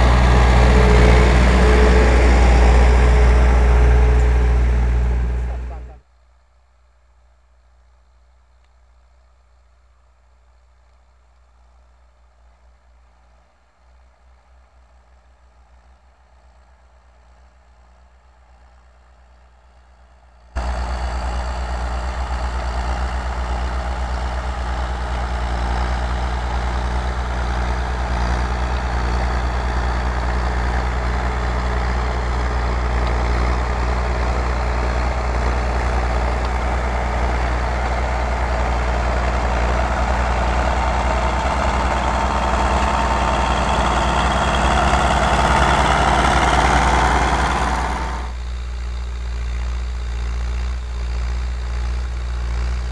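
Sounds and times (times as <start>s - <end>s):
tractor diesel engine running: 0.0s - 6.0s, 10.0s - 52.9s.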